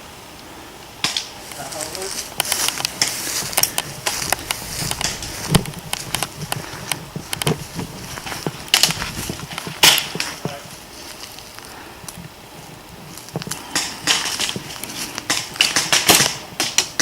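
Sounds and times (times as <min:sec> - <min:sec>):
footsteps crunching through brush: 0:01.0 - 0:17.0
twigs snapping: 0:01.0 - 0:17.0.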